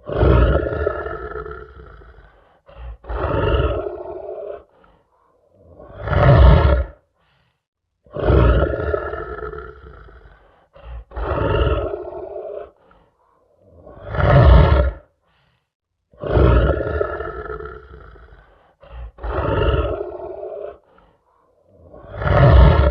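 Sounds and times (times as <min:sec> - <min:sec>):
lion roaring: 0:00.0 - 0:07.0, 0:08.1 - 0:15.1, 0:16.2 - 0:22.9.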